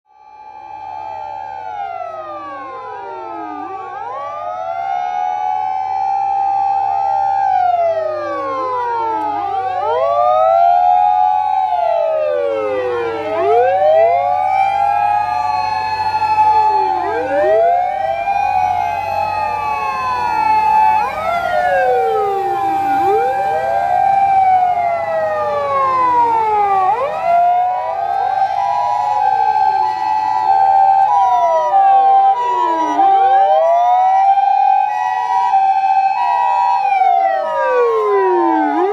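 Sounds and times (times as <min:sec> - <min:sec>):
electronic sirens wailing: 0:00.1 - 0:38.9
two-tone hi-lo siren: 0:00.1 - 0:38.9
low engine rumble: 0:00.5 - 0:36.0.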